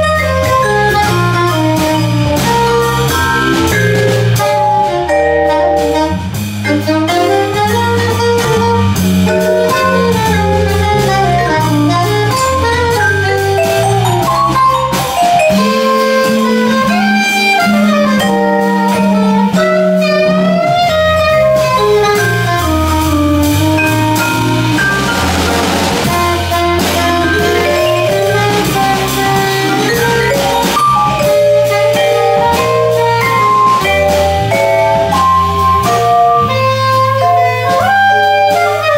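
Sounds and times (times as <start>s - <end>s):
bass: 0.0s - 38.9s
drum kit: 0.0s - 38.9s
soprano saxophone melody: 0.0s - 38.9s
vibraphone: 0.0s - 38.9s.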